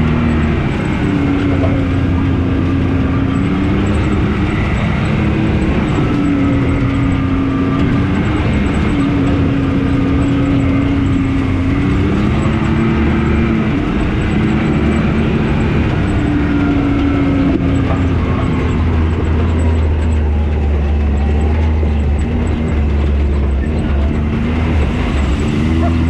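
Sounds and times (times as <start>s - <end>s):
engine running under way: 0.0s - 26.0s.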